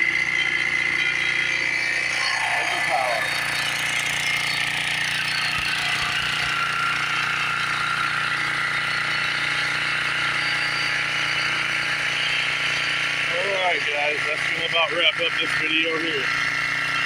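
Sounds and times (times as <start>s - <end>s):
portable generator engine running: 0.0s - 17.0s.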